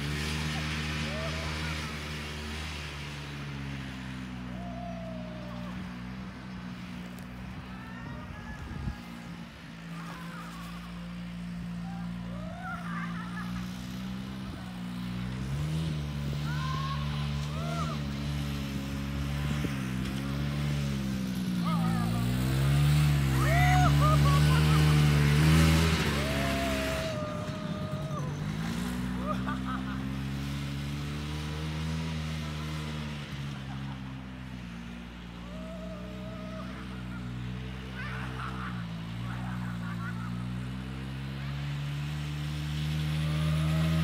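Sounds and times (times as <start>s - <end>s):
snowmobile engine running: 0.0s - 44.0s.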